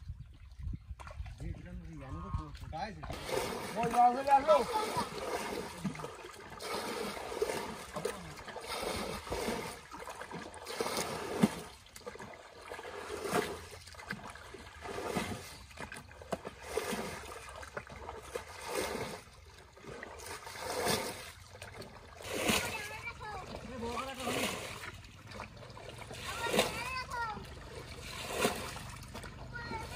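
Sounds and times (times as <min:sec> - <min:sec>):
water splashing: 0:00.0 - 0:29.9
water trickling: 0:00.0 - 0:29.9.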